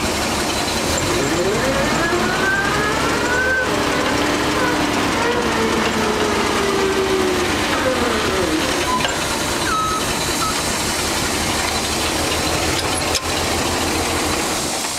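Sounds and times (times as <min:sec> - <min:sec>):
forklift engine rumbling: 0:00.0 - 0:14.9.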